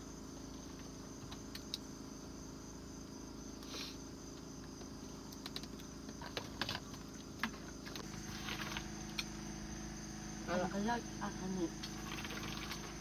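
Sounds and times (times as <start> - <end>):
insects chirring: 0.0 - 13.0
low steady hum: 0.0 - 13.0.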